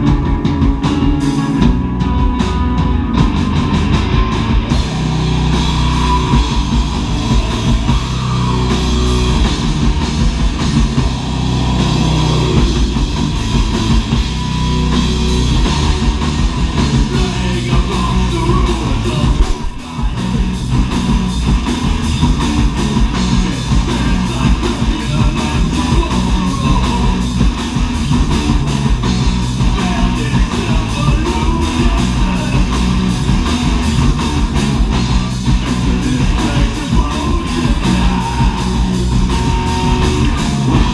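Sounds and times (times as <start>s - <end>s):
metal band playing: 0.0s - 40.9s
rapid drum beat: 0.0s - 40.9s.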